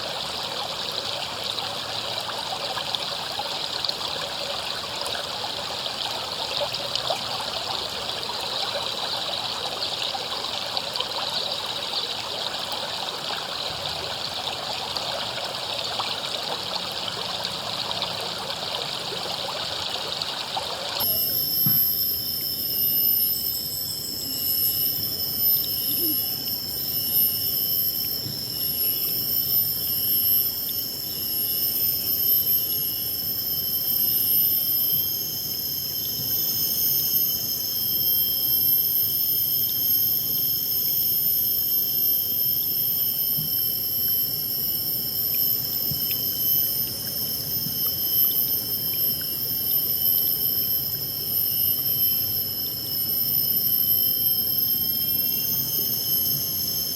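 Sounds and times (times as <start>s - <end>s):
high-pitched whine: 0.0s - 56.9s.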